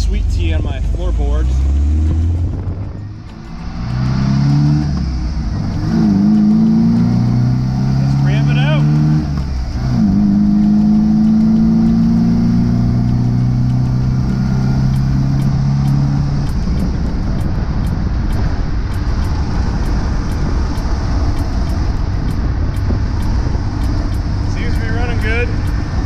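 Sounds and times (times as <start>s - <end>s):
car engine under throttle: 0.0s - 26.0s
wind and road rush: 0.0s - 26.0s.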